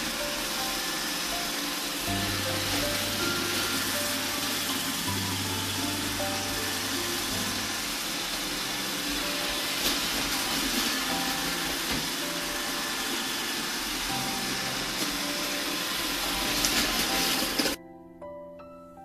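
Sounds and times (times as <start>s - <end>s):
robot vacuum whirring: 0.0s - 17.8s
soft piano music: 0.0s - 19.0s.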